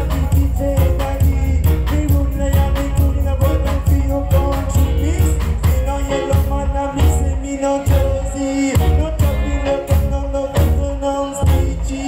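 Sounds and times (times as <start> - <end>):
live reggae band: 0.0 - 12.0.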